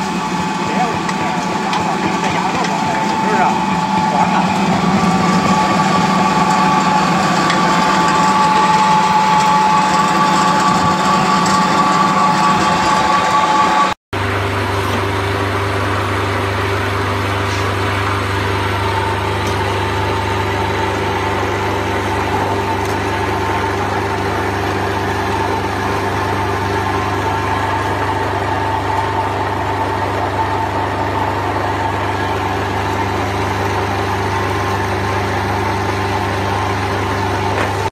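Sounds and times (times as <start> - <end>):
pellet mill humming and whining: 0.0 - 37.9.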